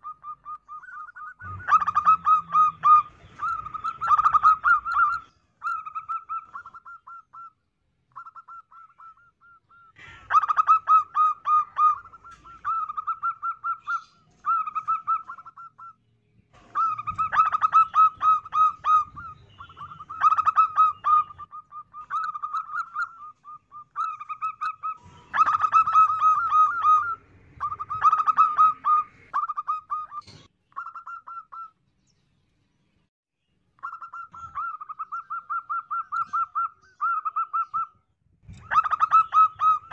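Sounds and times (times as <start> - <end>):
dove cooing: 0.0 - 7.5, 8.2 - 15.9, 16.6 - 31.6, 33.8 - 37.9, 38.6 - 39.9.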